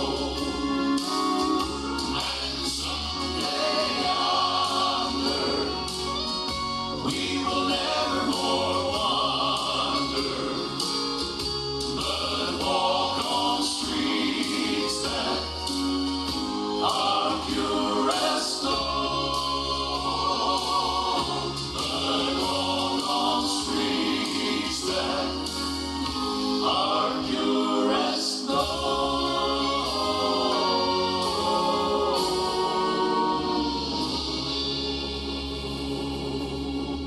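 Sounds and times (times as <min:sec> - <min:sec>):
bass line: 0:00.0 - 0:37.0
gospel group singing: 0:00.0 - 0:37.0.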